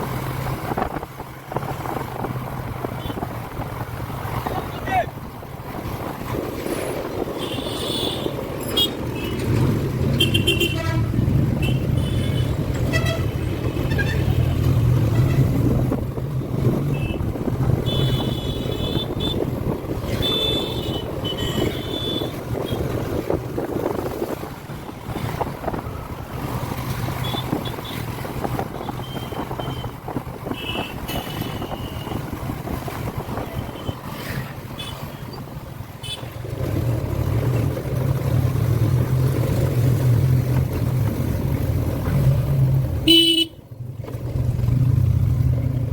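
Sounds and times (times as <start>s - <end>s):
wind rushing over microphone: 0.0s - 41.6s
motorcycle engine hum: 0.0s - 45.9s.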